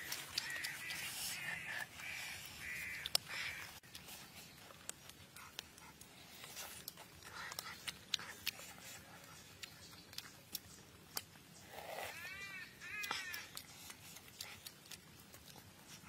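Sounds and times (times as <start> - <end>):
wet chewing and lip-smacking: 0.0 - 16.0.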